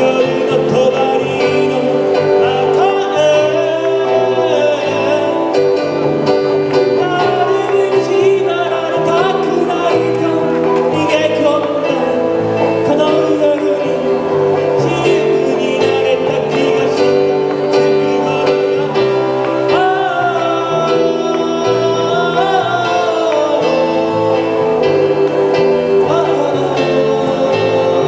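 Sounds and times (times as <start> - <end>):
bass line: 0.0 - 28.0
guitar: 0.0 - 28.0
keyboard: 0.0 - 28.0
person singing: 0.0 - 28.0.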